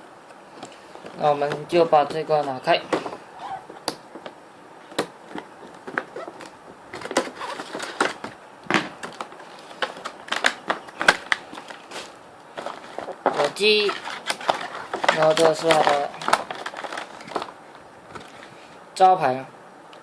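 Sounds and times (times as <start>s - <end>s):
plastic and cardboard packaging crinkling: 0.6s - 18.6s.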